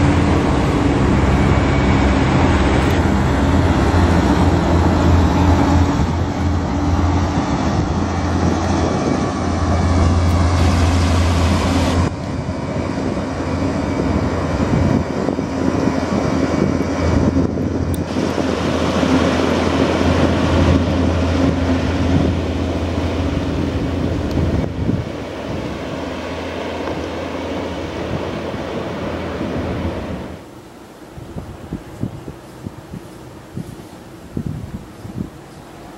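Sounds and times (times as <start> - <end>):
hovercraft engines droning: 0.0 - 35.9
rushing air and spray: 0.0 - 35.9.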